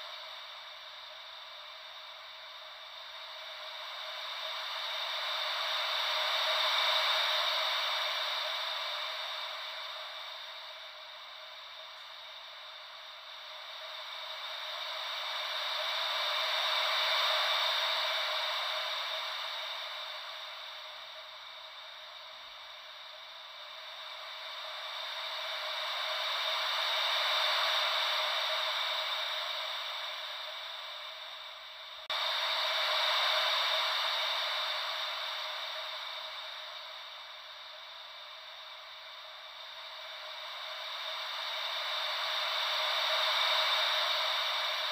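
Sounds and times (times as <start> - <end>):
ocean wave white noise: 0.0 - 44.9.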